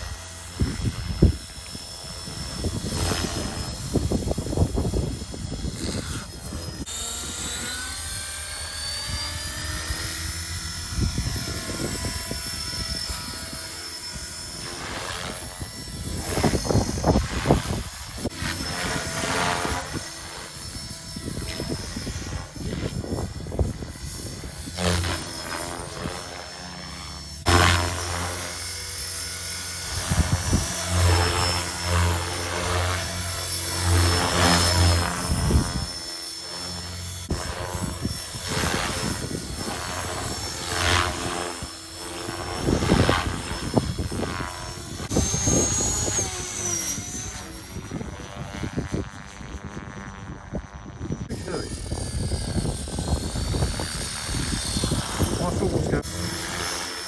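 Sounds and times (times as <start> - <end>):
rc helicopter motor and rotor whine: 0.0 - 57.0.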